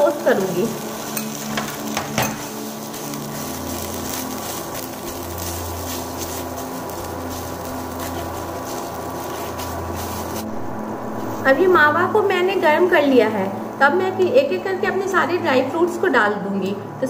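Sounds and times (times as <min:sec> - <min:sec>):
cooktop low hum: 0:00.0 - 0:14.5
soft sizzle: 0:00.0 - 0:16.8.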